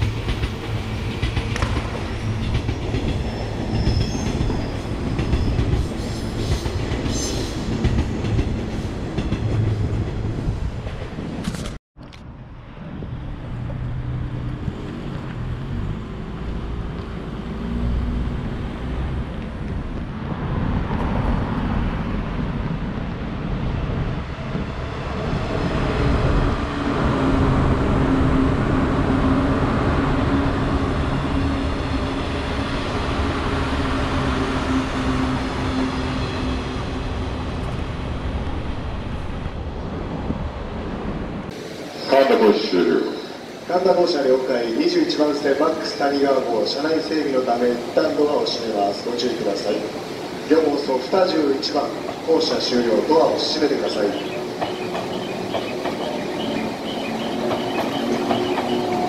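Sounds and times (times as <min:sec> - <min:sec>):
train passing on rails: 0:00.0 - 0:59.0.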